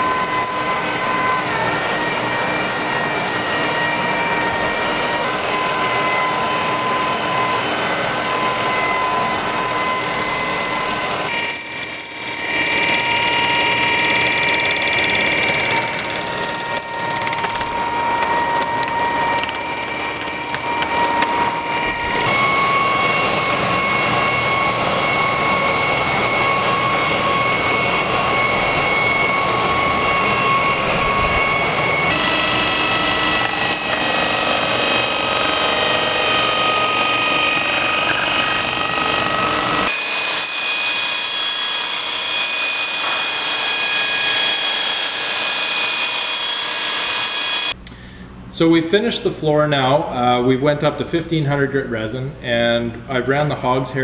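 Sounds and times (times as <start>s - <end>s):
concrete grinder motor whine: 0.0s - 47.8s.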